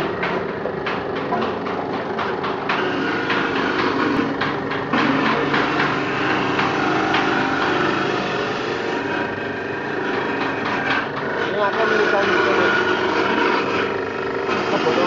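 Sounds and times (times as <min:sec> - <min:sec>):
coconut pieces knocking on rotor: 0:00.0 - 0:15.0
grating machine motor humming: 0:00.0 - 0:15.0.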